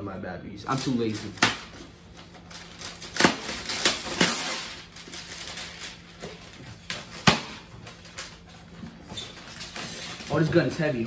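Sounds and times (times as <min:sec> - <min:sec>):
packaging rustling: 0:00.7 - 0:11.0.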